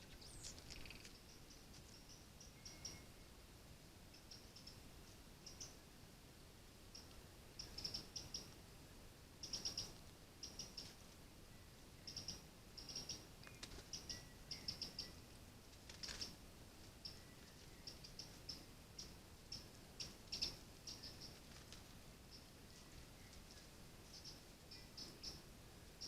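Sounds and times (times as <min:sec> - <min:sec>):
small birds chirping: 0:00.0 - 0:03.3, 0:04.1 - 0:05.8, 0:06.9 - 0:08.6, 0:09.4 - 0:26.0
faint background hiss: 0:00.0 - 0:26.0.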